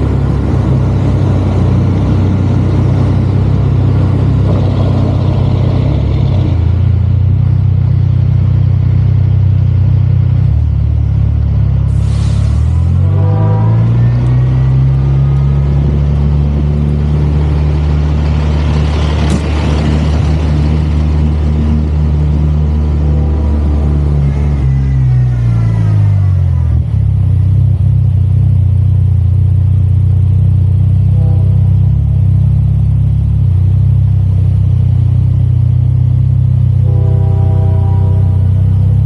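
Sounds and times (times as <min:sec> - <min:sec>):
diesel truck engine revving: 0:00.0 - 0:29.0, 0:30.3 - 0:39.0.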